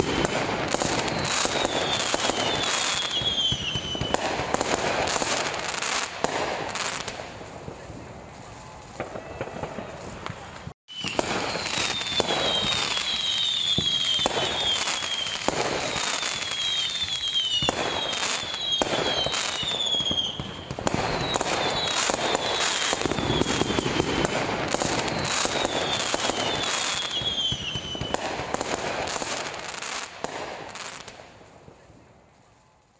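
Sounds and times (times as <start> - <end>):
falling firework whistles: 0.0 - 7.2, 8.3 - 31.2
fireworks bangs and crackles: 0.0 - 32.9.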